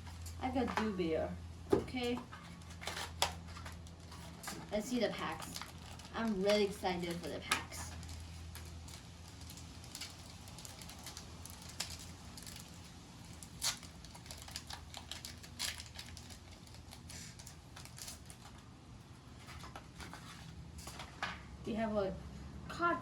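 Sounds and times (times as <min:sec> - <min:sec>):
foil pack and cards rustling: 0:01.7 - 0:21.2.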